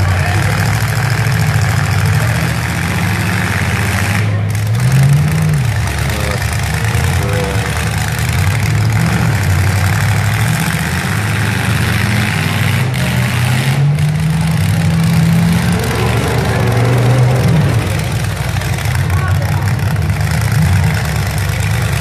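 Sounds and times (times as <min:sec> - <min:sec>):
truck engines idling and revving: 0:00.0 - 0:22.0.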